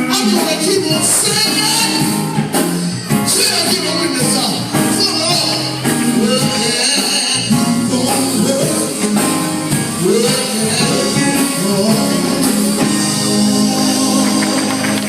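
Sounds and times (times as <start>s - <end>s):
gospel singing with band: 0.0s - 15.0s.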